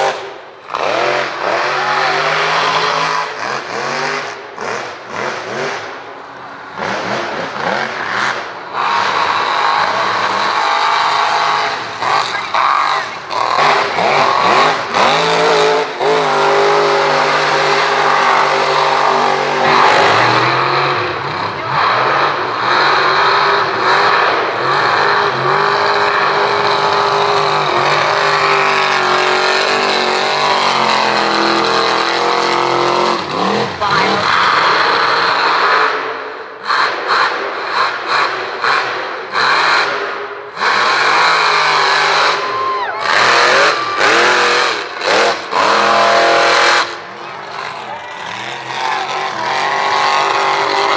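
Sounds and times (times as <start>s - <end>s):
truck engine revving hard: 0.0s - 50.9s.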